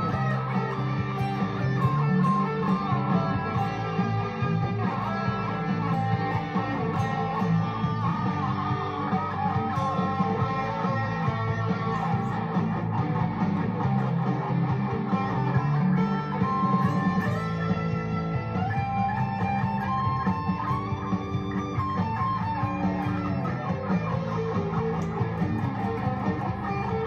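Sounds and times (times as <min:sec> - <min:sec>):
electric guitar lead lines: 0:00.0 - 0:27.0.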